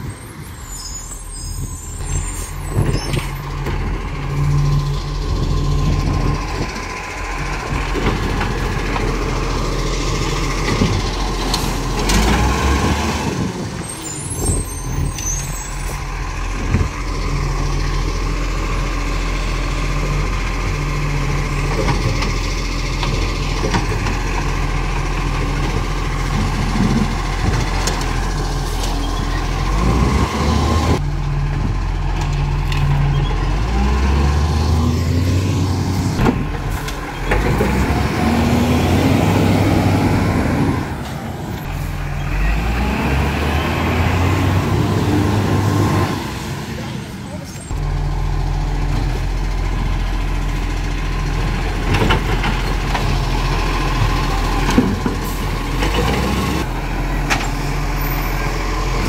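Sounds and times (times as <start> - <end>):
garbage truck diesel engine: 0.0 - 59.0.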